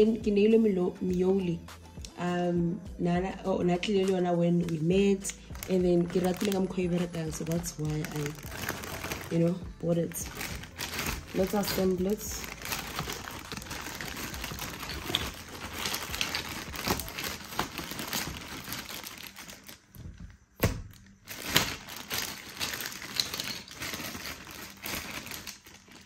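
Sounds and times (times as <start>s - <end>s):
plastic packaging crinkling: 4.0s - 26.0s.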